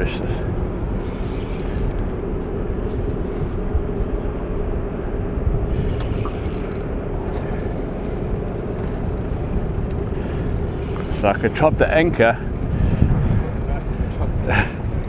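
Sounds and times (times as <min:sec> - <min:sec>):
low motor hum: 0:00.0 - 0:15.0
wind buffeting microphone: 0:00.0 - 0:15.0.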